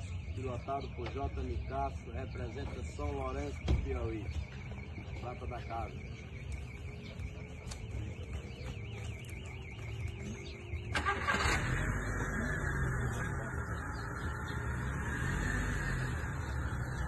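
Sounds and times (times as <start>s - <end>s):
warbling high alarm tone: 0.0s - 17.0s.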